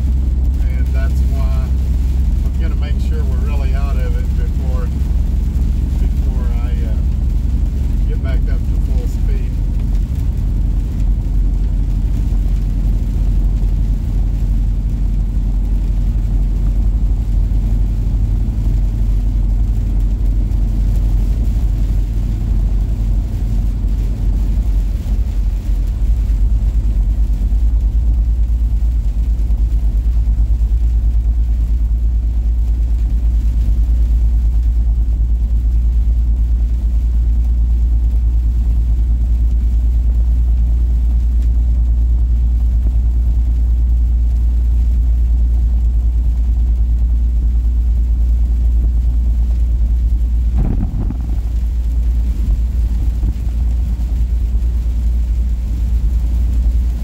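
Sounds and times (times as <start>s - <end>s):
road noise inside cab: 0.0s - 57.0s
truck engine rumble: 0.0s - 57.0s.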